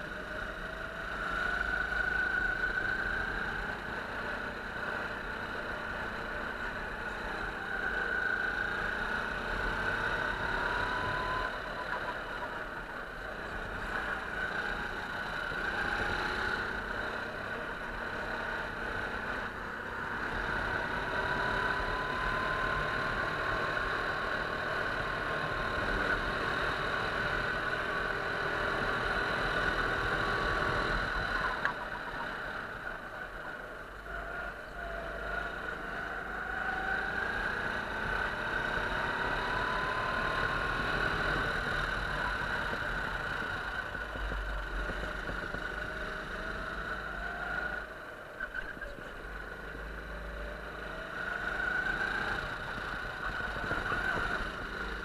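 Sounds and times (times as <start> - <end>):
go-kart engine accelerating: 0.0 - 55.0.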